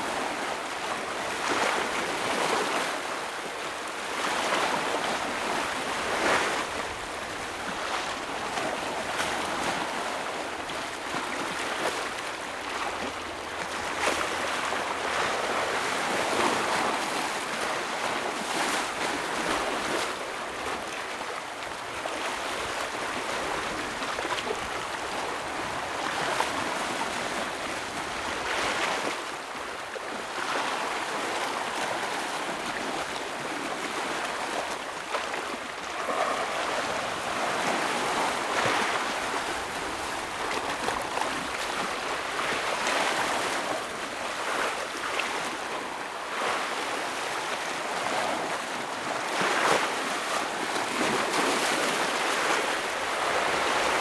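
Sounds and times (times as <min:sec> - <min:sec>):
ocean waves breaking on rocks: 0:04.1 - 0:54.0.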